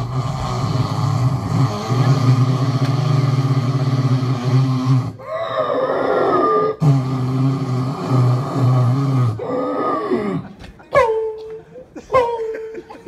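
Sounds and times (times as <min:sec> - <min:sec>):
low buzzing vocal drone: 0:00.0 - 0:10.6.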